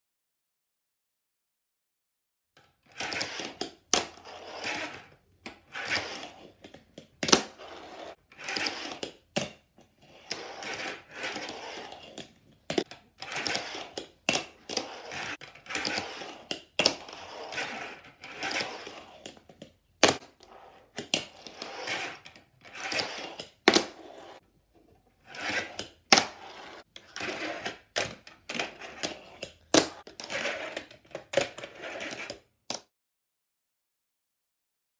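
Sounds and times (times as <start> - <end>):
fingerboard wheels rolling: 2.6 - 24.4, 25.2 - 32.5.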